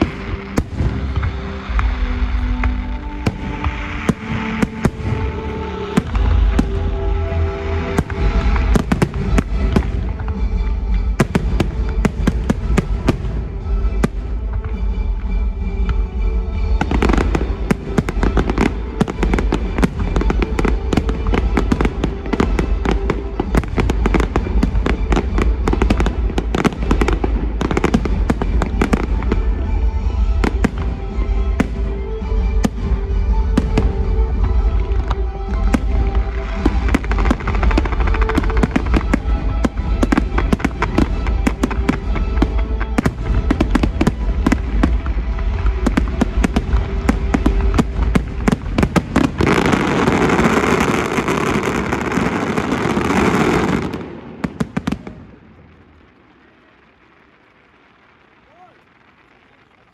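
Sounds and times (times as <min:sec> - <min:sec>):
music playing: 0:00.0 - 0:55.4
fireworks bangs and crackles: 0:00.0 - 0:59.9.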